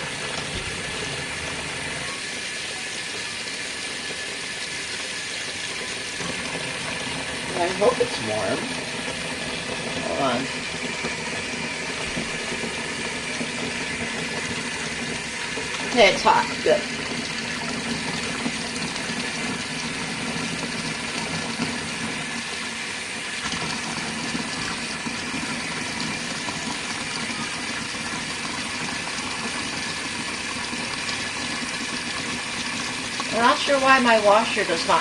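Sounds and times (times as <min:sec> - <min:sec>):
tap water running into tub: 0:00.0 - 0:35.0.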